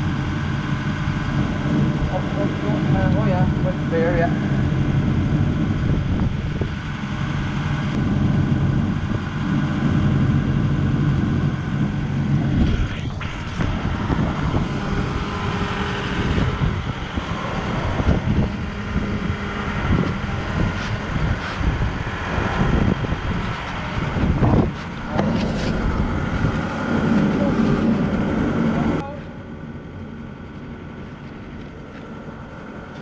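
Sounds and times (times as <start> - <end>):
crane engine humming: 0.0 - 33.0.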